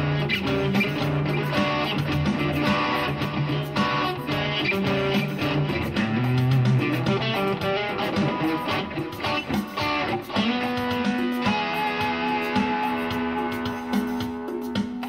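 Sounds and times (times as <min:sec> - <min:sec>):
electric guitar melody: 0:00.0 - 0:15.0.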